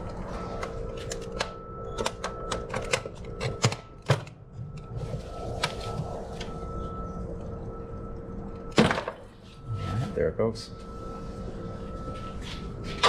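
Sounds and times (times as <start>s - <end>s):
steady hum with high whine: 0.0s - 13.0s.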